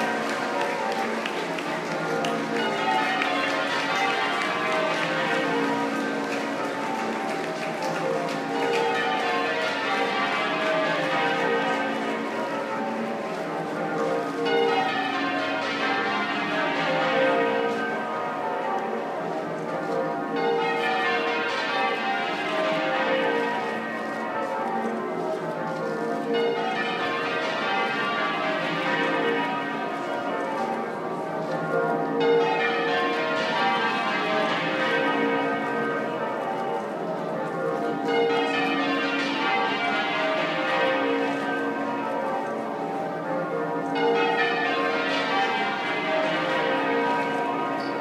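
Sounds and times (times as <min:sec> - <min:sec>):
muffled church bells ringing: 0:00.0 - 0:48.0.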